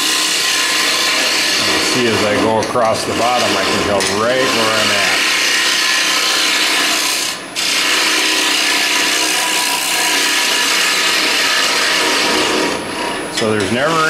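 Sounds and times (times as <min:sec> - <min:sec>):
cutter scraping wood: 0:00.0 - 0:14.0
lathe whine: 0:00.0 - 0:14.0.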